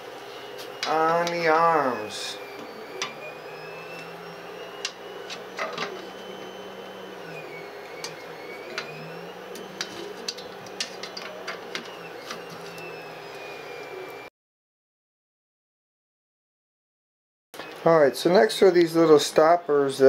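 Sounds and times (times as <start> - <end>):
whining machine hum: 0.0 - 14.3, 17.6 - 20.0.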